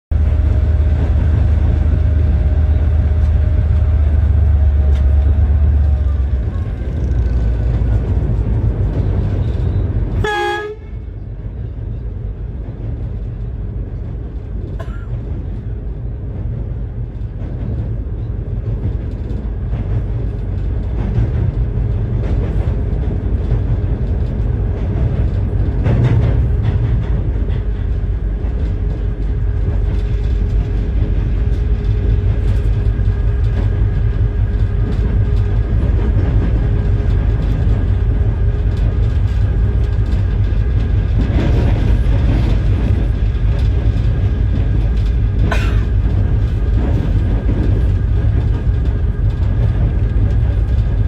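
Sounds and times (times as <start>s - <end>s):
train rumbling over bridge: 0.0s - 51.0s.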